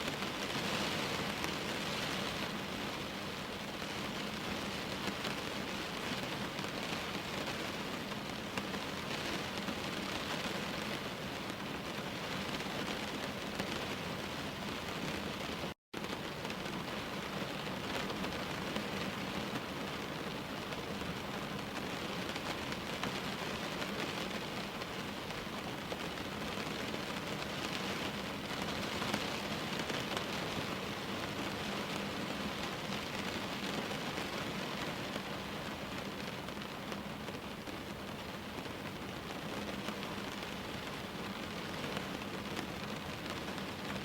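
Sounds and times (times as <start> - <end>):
rain hissing on a window: 0.0 - 44.0.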